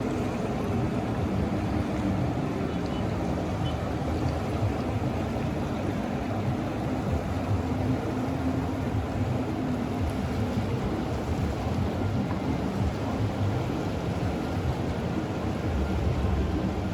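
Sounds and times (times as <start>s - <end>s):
rushing river water: 0.0s - 16.9s.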